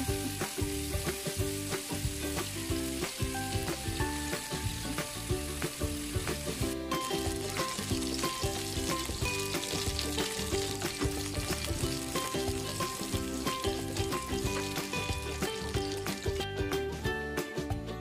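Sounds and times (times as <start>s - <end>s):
chicken sizzling in hot oil: 0.0s - 16.7s
light background music: 0.0s - 18.0s.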